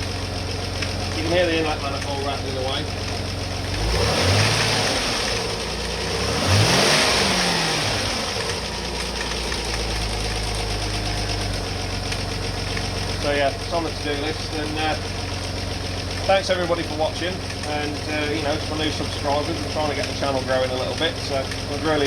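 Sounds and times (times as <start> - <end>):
car engine revving and idling: 0.0 - 22.0
engine manifold rattling: 0.0 - 22.0.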